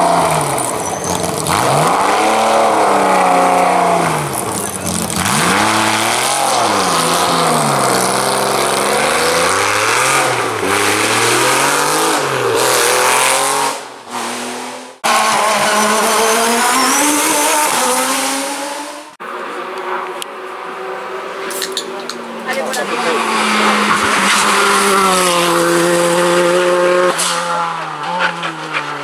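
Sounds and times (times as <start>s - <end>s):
race car engine accelerating: 0.0s - 19.2s, 22.8s - 29.0s.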